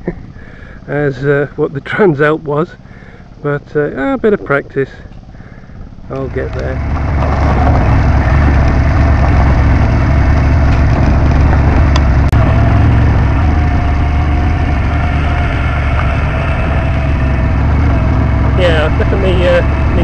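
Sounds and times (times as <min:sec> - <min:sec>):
motorcycle engine running: 0:02.8 - 0:20.0.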